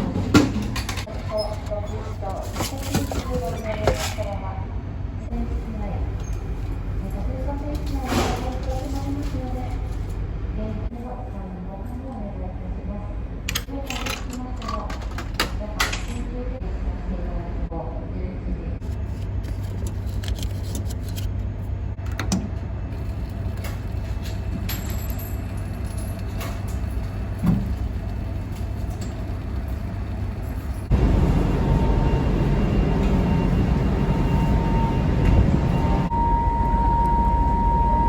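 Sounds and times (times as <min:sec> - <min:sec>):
ferry engines droning: 0:00.0 - 0:38.0.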